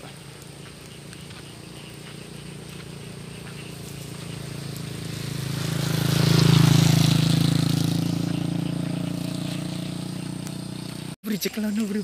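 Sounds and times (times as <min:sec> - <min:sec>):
vehicle passing by: 0:00.0 - 0:11.2.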